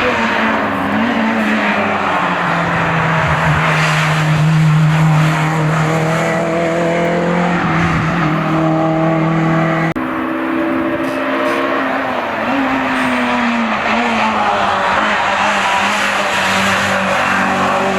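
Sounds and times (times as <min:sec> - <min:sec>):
race car engine at high revs: 0:00.0 - 0:17.9.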